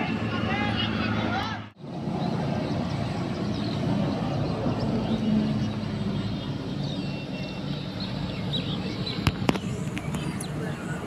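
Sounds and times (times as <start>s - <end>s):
motor engine droning: 0.0s - 11.0s.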